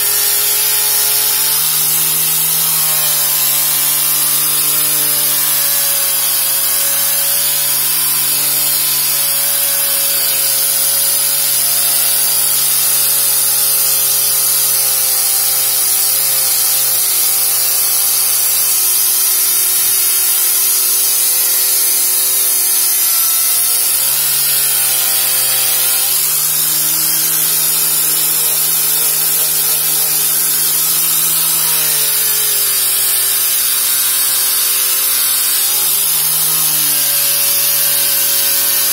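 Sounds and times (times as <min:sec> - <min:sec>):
angle grinder motor whine: 0:00.0 - 0:38.9.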